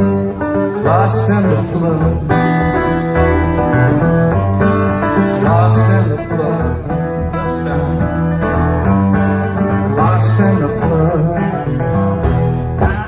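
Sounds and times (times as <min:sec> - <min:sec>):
bass line: 0:00.0 - 0:13.0
guitars strummed and picked: 0:00.0 - 0:13.0.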